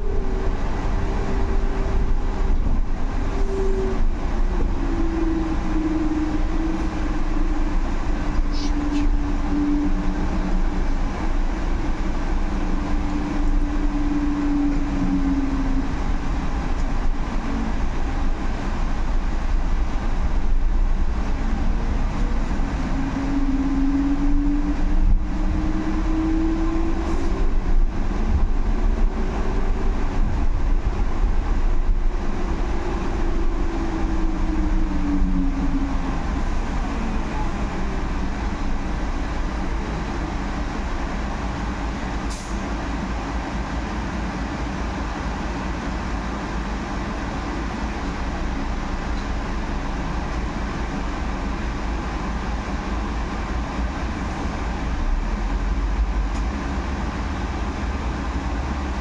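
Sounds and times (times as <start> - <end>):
bus road rumble: 0.0 - 59.0.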